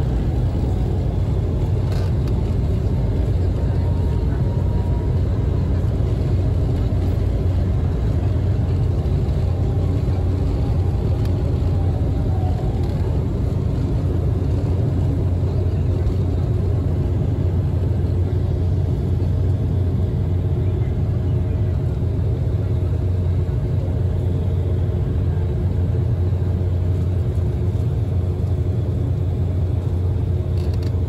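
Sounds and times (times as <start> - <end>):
jet engines roaring: 0.0 - 31.0
wheels rumbling on runway: 0.0 - 31.0.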